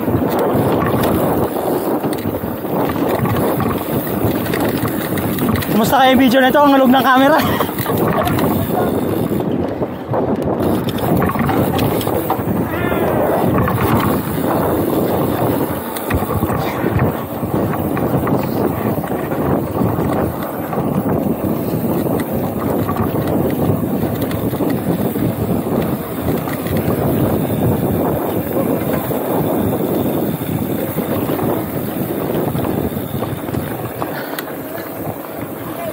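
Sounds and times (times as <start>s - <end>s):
bike tyres rolling on gravel: 0.0s - 35.9s
wind rushing over microphone: 0.0s - 35.9s.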